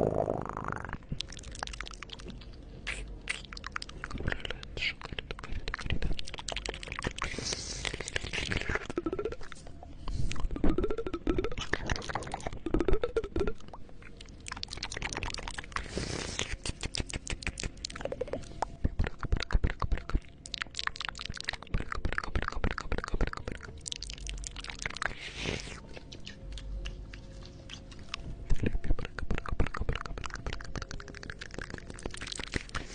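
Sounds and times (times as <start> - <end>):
wet tongue clicks and lip smacks: 1.1 - 9.6, 10.3 - 32.9.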